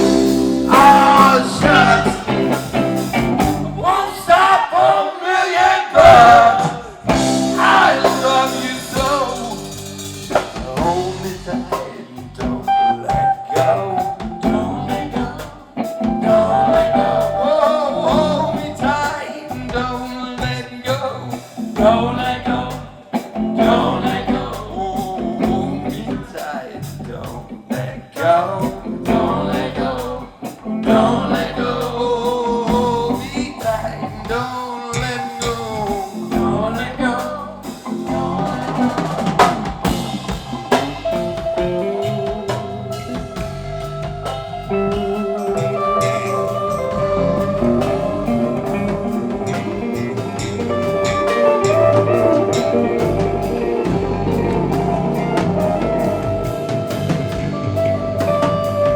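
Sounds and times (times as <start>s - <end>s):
electric guitar bending notes: 0.0s - 4.4s, 6.0s - 19.2s, 28.6s - 58.9s
bass guitar: 0.0s - 5.0s, 6.0s - 58.9s
drum kit with rimshots: 0.0s - 5.0s, 5.6s - 58.9s.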